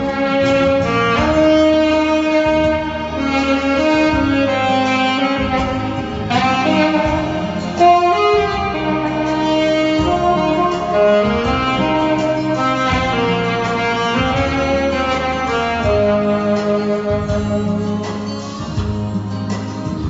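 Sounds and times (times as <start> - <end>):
backing track: 0.0 - 20.0
saxophone melody: 0.0 - 20.0.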